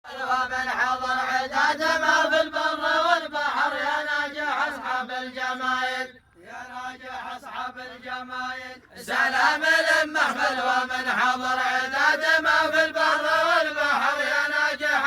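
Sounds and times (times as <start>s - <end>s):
men chanting slow melody: 0.1s - 15.0s.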